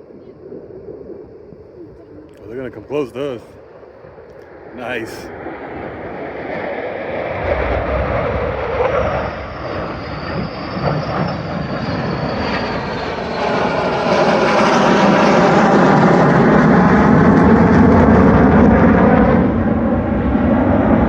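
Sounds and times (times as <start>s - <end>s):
aircraft engine noise: 0.0s - 21.0s.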